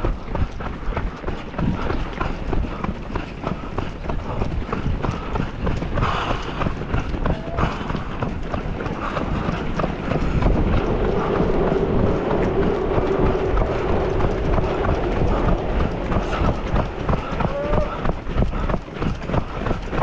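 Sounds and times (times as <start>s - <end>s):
footsteps on road: 0.0s - 20.0s
wind buffeting microphone: 0.0s - 20.0s.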